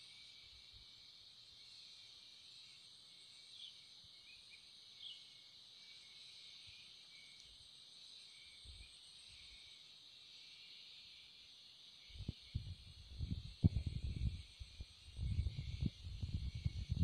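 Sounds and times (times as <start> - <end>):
insect chorus chirring: 0.0 - 17.0
short insect chirps: 0.0 - 17.0.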